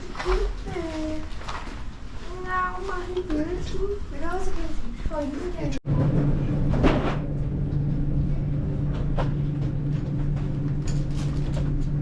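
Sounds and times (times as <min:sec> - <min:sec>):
elevator mechanical hum: 0:00.0 - 0:12.0.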